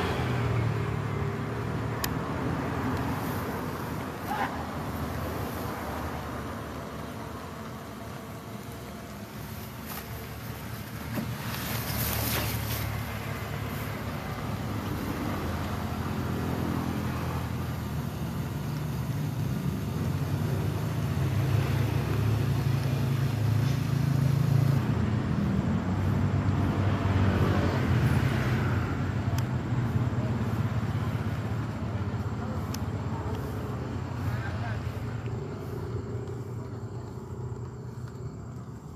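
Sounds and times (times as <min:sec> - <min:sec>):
road and tyre noise: 0:00.0 - 0:38.9
vehicle engine running: 0:00.0 - 0:38.9.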